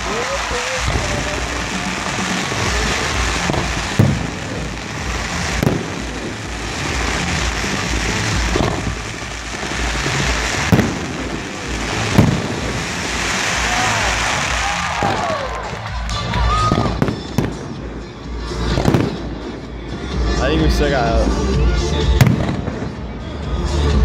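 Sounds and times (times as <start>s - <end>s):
firework booms: 0.0s - 15.8s, 16.7s - 19.7s, 22.2s - 23.2s
fireworks crackling: 0.0s - 24.0s.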